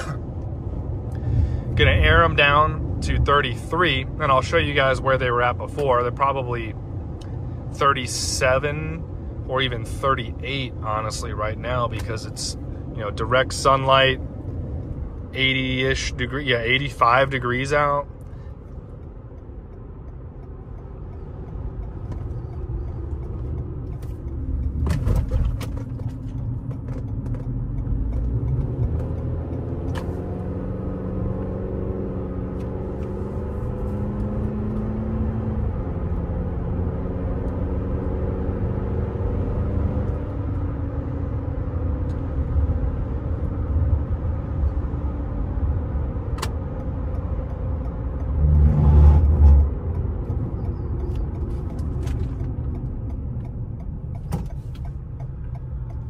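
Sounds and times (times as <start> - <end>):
low engine hum: 0.0 - 56.0
tire and road rumble: 0.0 - 56.0.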